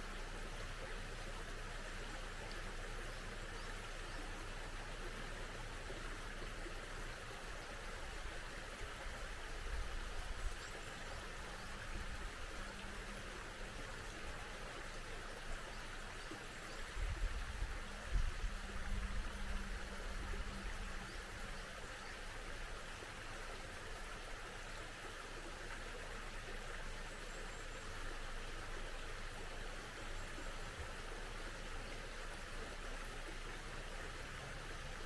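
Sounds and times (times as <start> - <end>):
stream running: 0.0 - 35.0.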